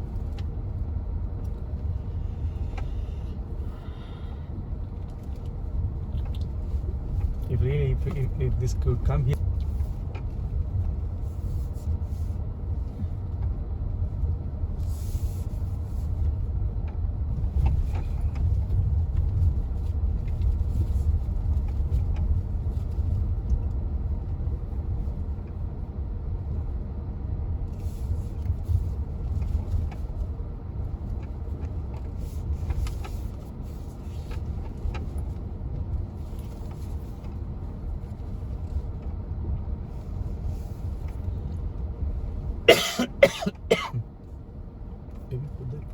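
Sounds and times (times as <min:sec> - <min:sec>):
vehicle rumble while driving: 0:00.0 - 0:45.9.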